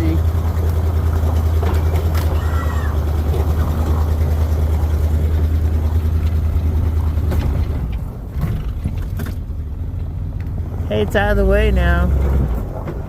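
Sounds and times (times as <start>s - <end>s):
truck engine droning under load: 0.0s - 13.0s.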